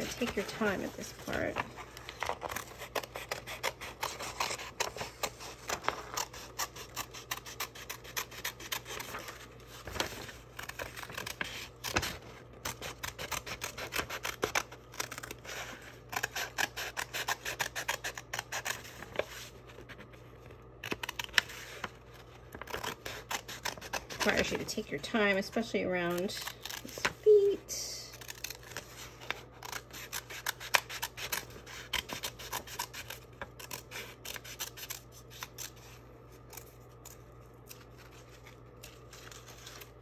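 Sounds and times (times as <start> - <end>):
scissors snipping paper: 0.0 - 19.4, 20.8 - 40.0.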